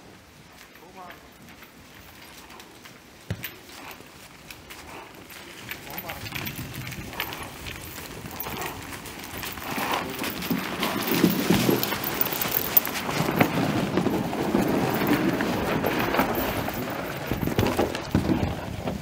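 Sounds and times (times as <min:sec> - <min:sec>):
hooves crunching through snow: 0:00.0 - 0:19.0
log dragging over snow: 0:00.0 - 0:19.0.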